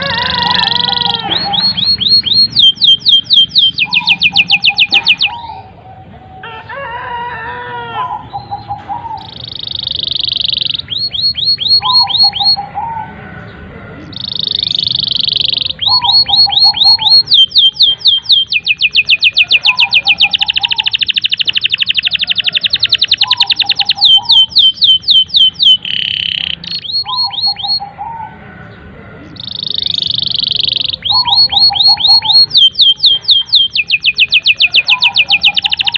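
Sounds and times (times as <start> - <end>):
canary singing: 0.0 - 35.9.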